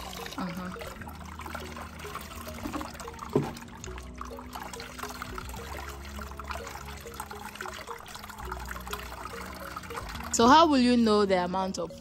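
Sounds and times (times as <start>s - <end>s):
liquid trickling through strainer: 0.0s - 11.8s.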